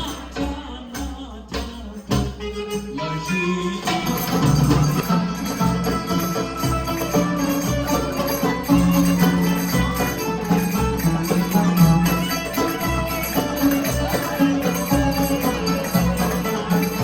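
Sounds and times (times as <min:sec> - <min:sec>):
live band music: 0:02.3 - 0:17.0.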